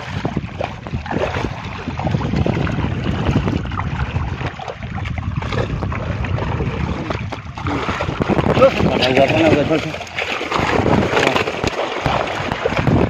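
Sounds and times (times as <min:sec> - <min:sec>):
water splashing and sloshing: 0:00.0 - 0:13.0
wind buffeting microphone: 0:00.0 - 0:13.0.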